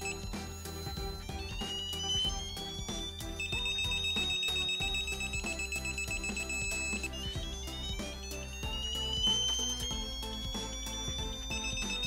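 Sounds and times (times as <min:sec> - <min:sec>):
torque wrench beeping: 0:00.0 - 0:12.0.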